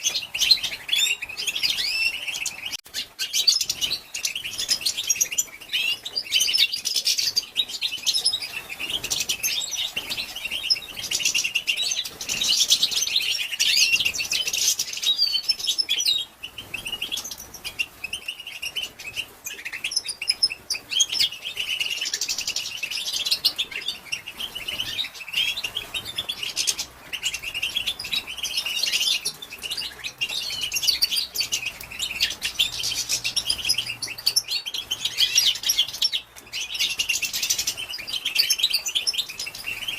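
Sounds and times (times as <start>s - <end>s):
goldfinch twittering: 0.0s - 39.9s.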